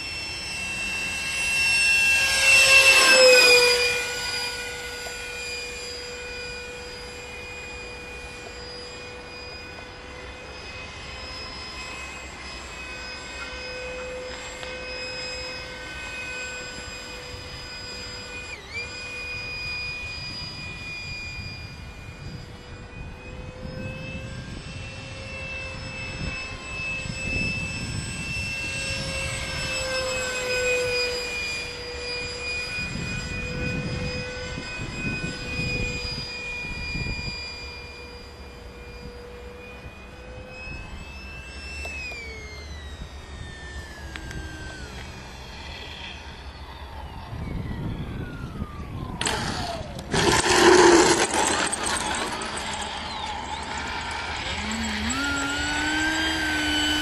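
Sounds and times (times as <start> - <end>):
model jet fan whining: 0.0 - 57.0.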